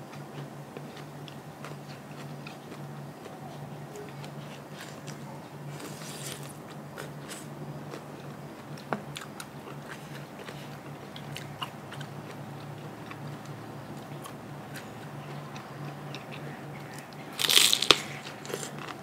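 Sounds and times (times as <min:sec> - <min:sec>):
person chewing and crunching food: 0:00.0 - 0:19.0.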